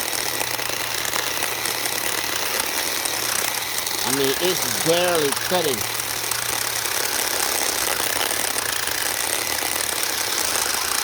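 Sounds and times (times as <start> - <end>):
electric chainsaw sawing branch: 0.0 - 11.0.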